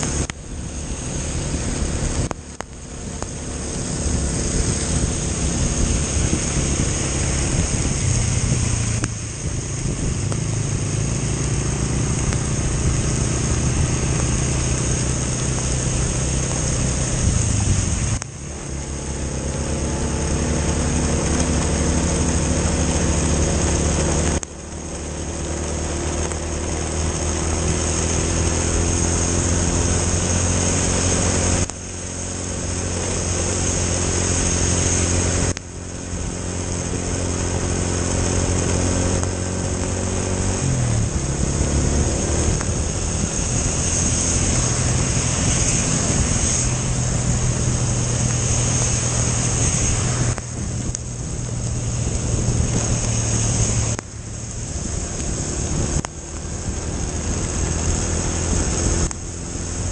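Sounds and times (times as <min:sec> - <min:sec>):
scooter engine running: 0:00.0 - 0:59.9
wind and wet road hiss: 0:00.0 - 0:59.9.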